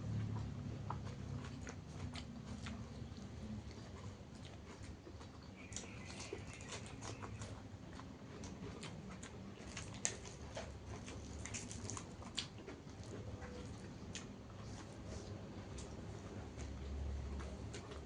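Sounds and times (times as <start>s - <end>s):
close-up chewing: 0.0s - 18.0s.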